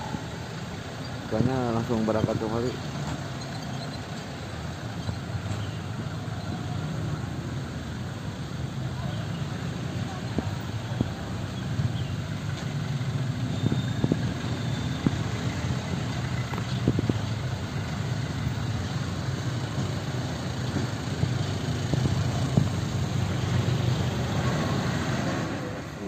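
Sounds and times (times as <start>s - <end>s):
motorcycles and trucks running: 0.0s - 26.0s
road traffic: 0.0s - 26.0s.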